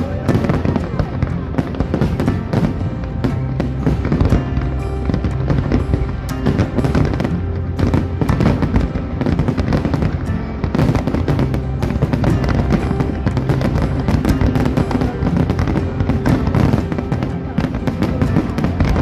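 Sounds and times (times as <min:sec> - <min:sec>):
fireworks bursts and crackles: 0:00.0 - 0:19.0
loud music: 0:00.0 - 0:19.0.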